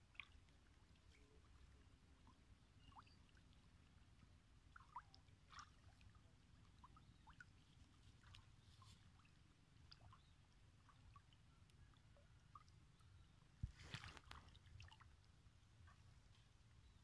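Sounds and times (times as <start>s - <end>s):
faint ticks and chirps: 0.0s - 17.0s.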